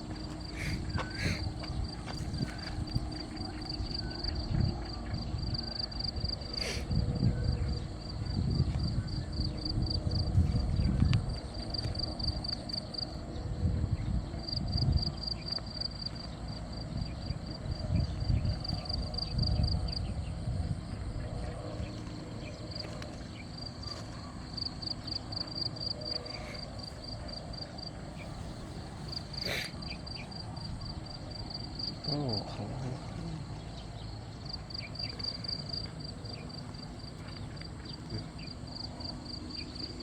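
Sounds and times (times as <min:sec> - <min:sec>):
high-pitched insect trill: 0:00.0 - 0:40.0.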